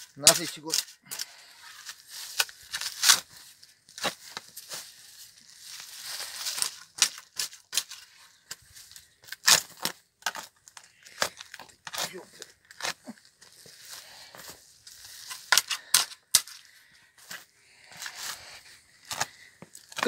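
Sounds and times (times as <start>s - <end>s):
rustle of crumbling soil: 0.0s - 20.0s
spade crunching into soil: 0.0s - 20.0s.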